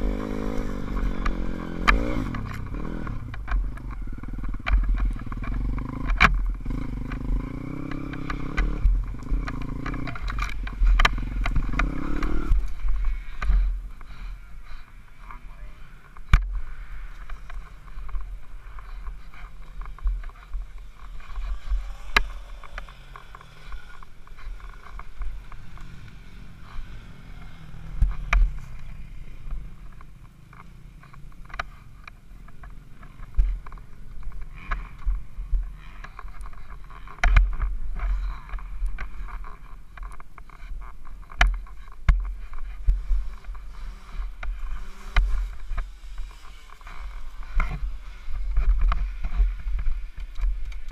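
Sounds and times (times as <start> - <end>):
motorcycle engine running low speed: 0.0 - 50.9.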